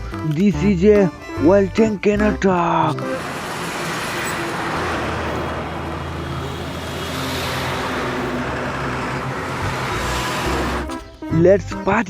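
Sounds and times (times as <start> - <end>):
truck engine running: 0.0 - 11.8.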